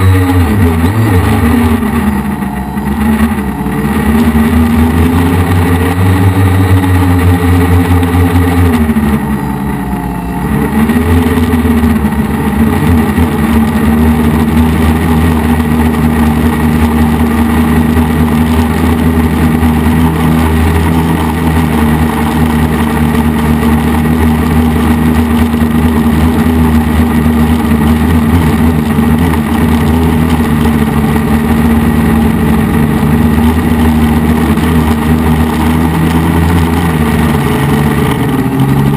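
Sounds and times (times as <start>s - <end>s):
quadcopter propellers buzzing: 0.0s - 38.9s.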